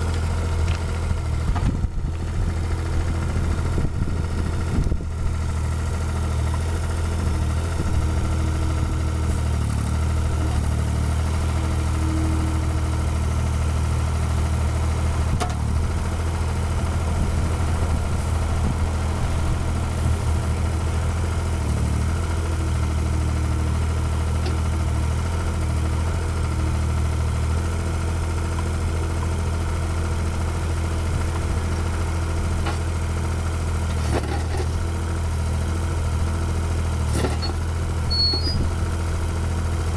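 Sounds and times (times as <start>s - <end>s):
excavator engine idling: 0.0s - 39.9s.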